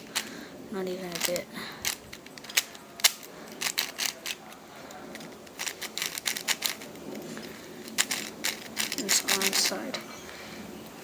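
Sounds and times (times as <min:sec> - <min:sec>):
puzzle cube plastic clicks: 0:00.0 - 0:00.3, 0:00.9 - 0:10.1.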